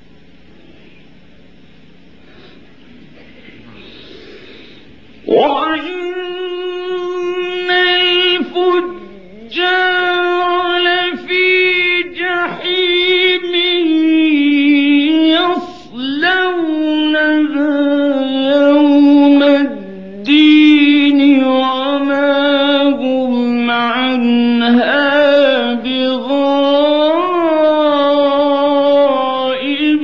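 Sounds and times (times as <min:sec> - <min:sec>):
man chanting melodically: 0:05.2 - 0:30.0.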